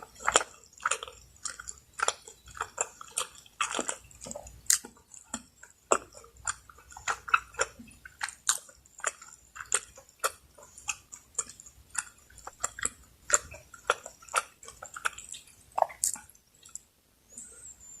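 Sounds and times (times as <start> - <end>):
chewing mouth clicks and smacks: 0.0 - 16.9.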